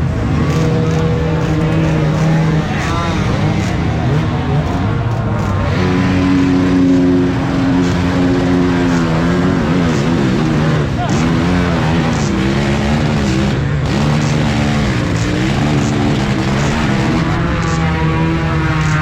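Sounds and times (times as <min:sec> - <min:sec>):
dirt bike engines running hard: 0:00.0 - 0:19.0.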